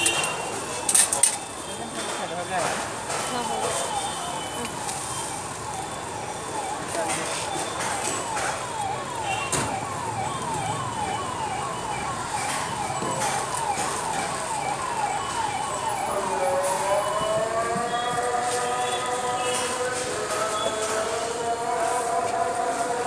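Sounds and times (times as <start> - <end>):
electronic siren: 3.0 - 23.0.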